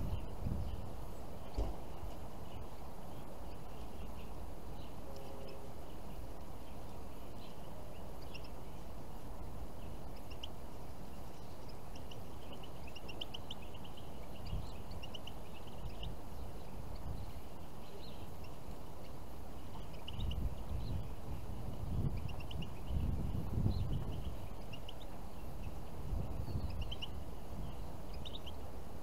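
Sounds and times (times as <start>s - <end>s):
finches chirping: 0.0s - 28.8s.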